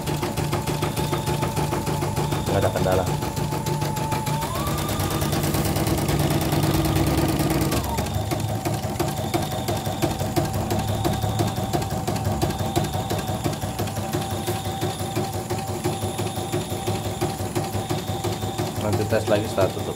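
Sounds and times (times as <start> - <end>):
embroidery machine needle striking: 0.0 - 19.9
motor whine: 0.0 - 19.9.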